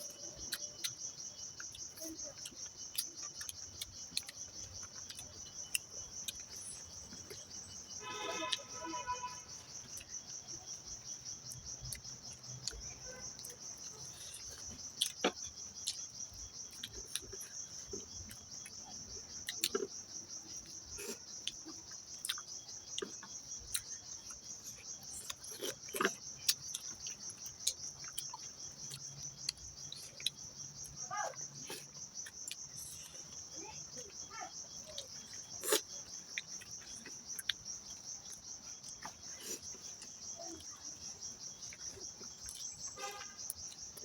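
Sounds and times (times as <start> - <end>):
eating and chewing clicks: 0.0 - 44.0
insects chirring: 0.0 - 44.0.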